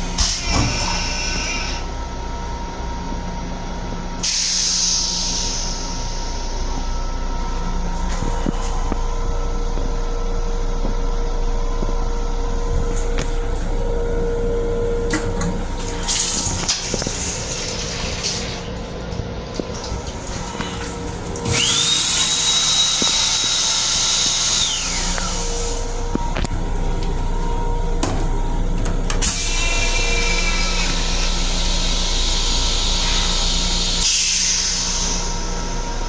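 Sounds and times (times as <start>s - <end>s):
train running rumble and hum: 0.0s - 22.0s, 24.6s - 36.0s
steady whine: 0.0s - 36.0s.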